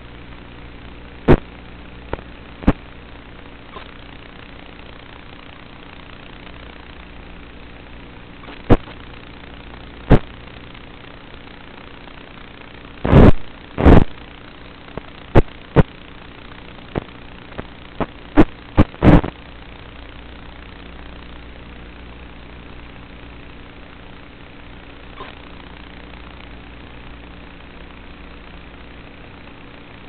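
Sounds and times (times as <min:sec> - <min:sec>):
sharp crackles and pops: 0:00.0 - 0:30.0.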